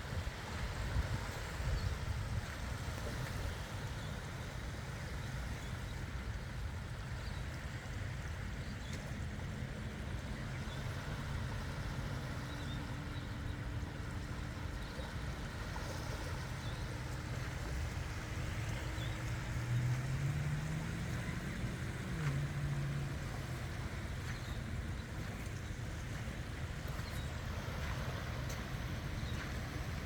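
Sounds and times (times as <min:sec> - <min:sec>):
water: 0:00.0 - 0:30.0
wind: 0:00.0 - 0:30.0.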